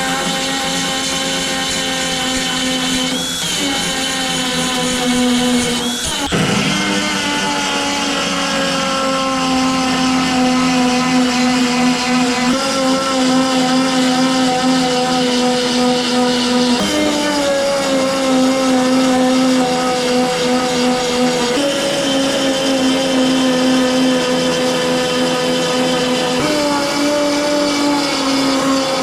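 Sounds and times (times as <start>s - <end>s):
power tool cutting sheet metal: 0.0s - 29.0s.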